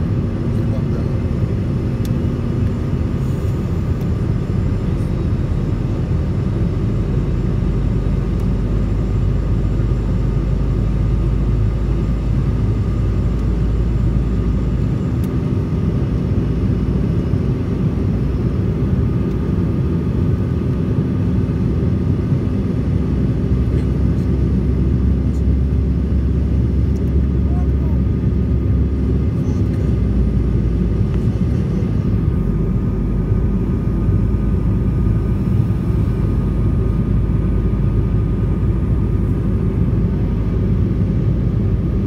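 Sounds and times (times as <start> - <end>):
airliner cabin rumble: 0.0 - 42.0.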